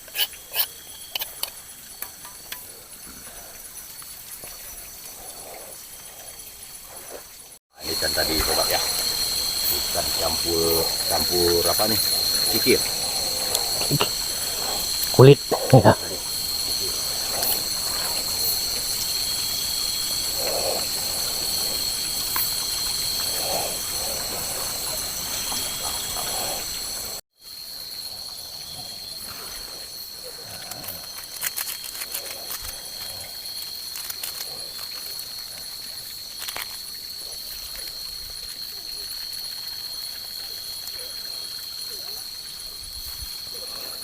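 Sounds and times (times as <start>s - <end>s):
night insect chorus: 0.0s - 44.0s.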